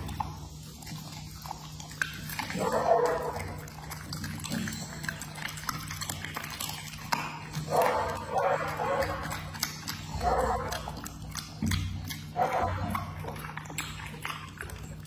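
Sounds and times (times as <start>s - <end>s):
dog licking lips: 0.0s - 15.0s
dog throaty vocal sounds: 0.0s - 15.0s.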